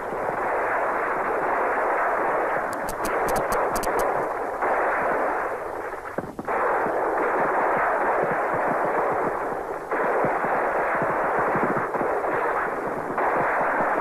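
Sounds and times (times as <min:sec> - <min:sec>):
massed rifle and machine-gun fire: 0:00.2 - 0:05.4, 0:06.5 - 0:14.0.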